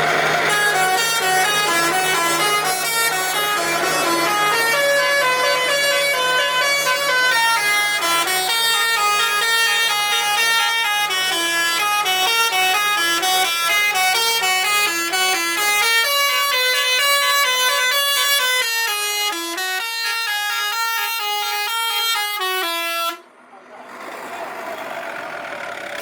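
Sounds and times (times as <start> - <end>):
musical bus air horn: 0.0 - 23.3.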